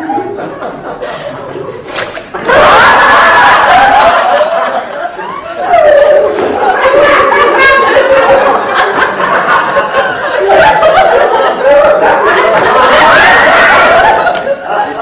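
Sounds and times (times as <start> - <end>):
studio audience laughing: 0.0 - 15.0.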